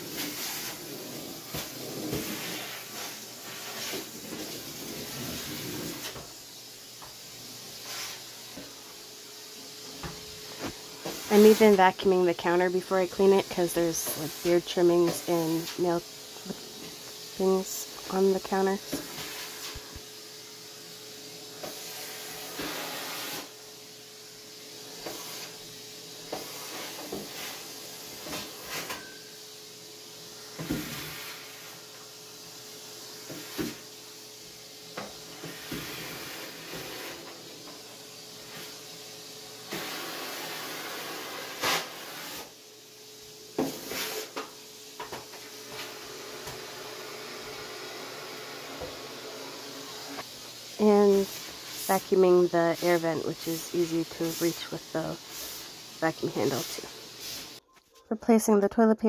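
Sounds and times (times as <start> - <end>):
vacuum cleaner running: 0.0 - 57.6.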